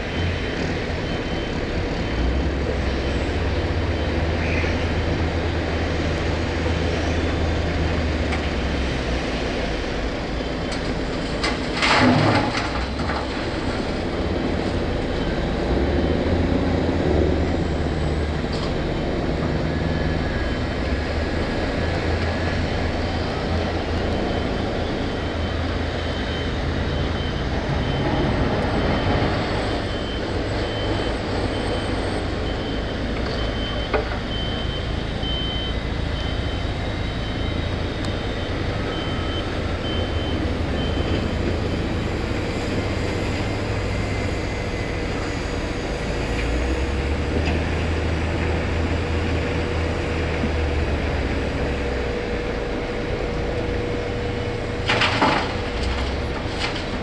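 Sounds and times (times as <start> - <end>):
diesel machinery engine rumble: 0.0 - 57.0
reversing alarm beeping: 0.0 - 57.0.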